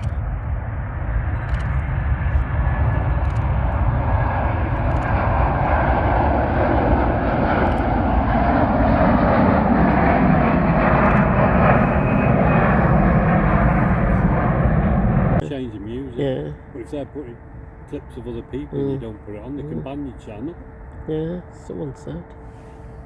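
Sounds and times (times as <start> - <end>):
airliner engines passing: 0.0 - 23.0.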